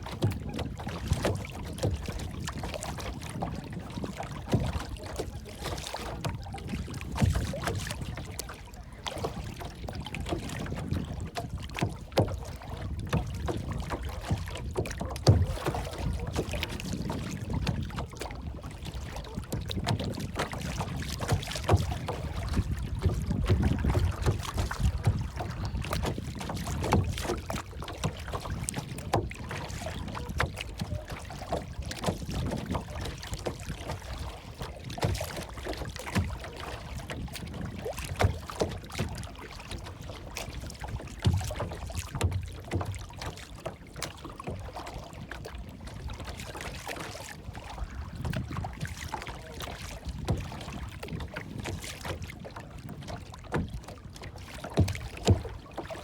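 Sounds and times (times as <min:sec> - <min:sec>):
small splashy ticks: 0:00.0 - 0:03.4, 0:04.0 - 0:47.4, 0:48.2 - 0:55.9
water lapping and sloshing: 0:00.0 - 0:56.0.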